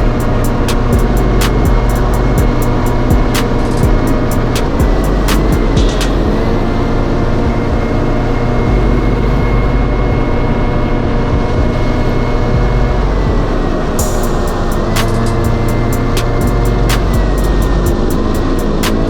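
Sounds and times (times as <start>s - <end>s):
thin steady whine: 0.0s - 19.0s.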